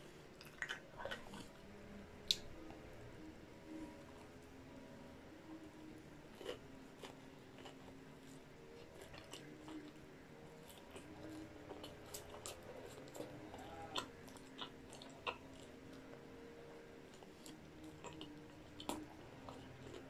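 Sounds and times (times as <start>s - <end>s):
person chewing food: 0.3s - 2.9s, 5.5s - 20.0s.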